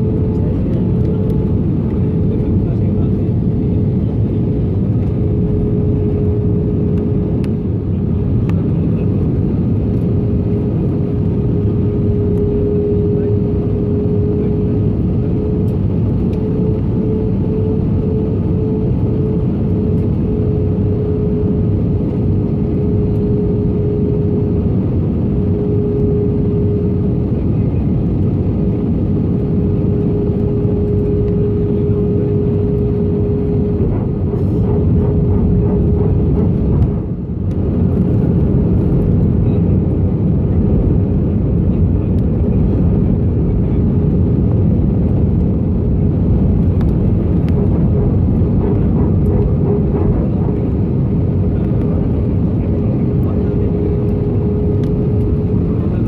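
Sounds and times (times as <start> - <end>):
jet engines roaring: 0.0 - 56.0
steady humming tone: 0.0 - 56.0.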